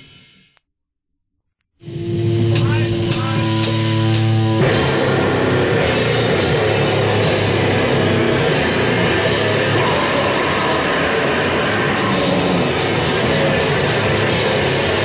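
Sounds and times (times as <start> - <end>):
heavy band playing: 1.8 - 15.0.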